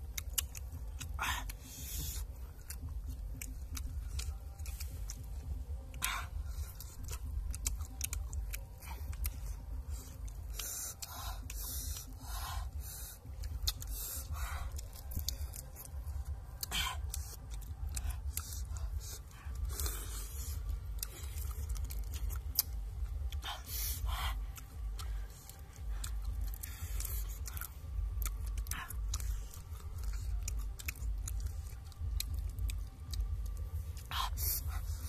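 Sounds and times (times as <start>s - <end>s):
chewing and crunching: 0.0s - 35.0s
steady low rumble: 0.0s - 35.0s.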